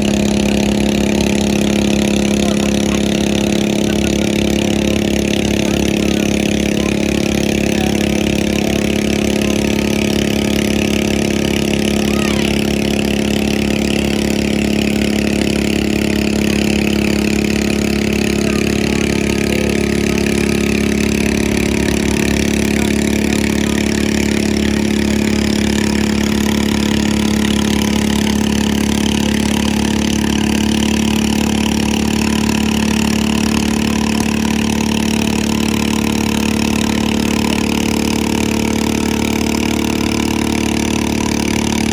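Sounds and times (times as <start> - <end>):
lawn mower engine running: 0.0 - 41.9.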